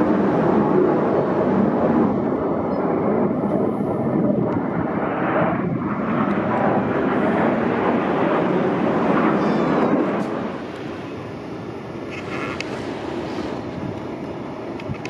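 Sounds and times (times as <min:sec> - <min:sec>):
jet flying over: 0:00.0 - 0:15.0.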